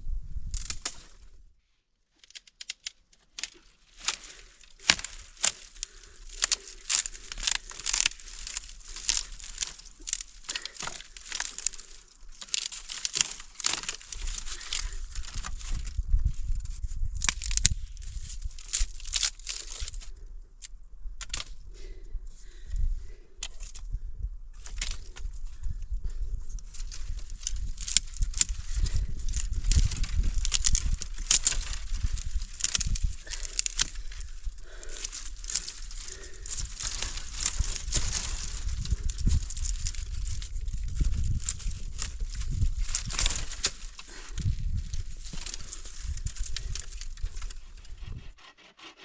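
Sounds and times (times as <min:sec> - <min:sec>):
crackling and rustling: 0:02.1 - 0:20.1, 0:26.7 - 0:48.5.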